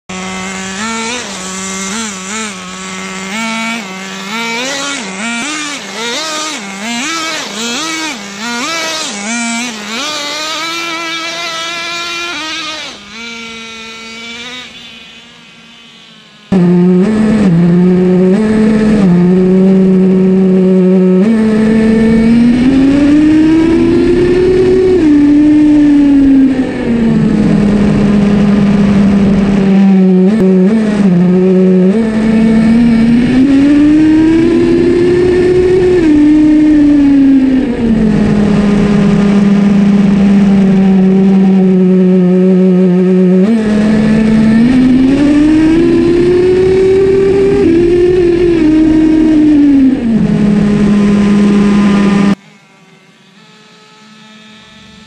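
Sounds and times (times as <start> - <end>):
small two-stroke model engine revving: 0.1 - 52.4, 53.2 - 55.0.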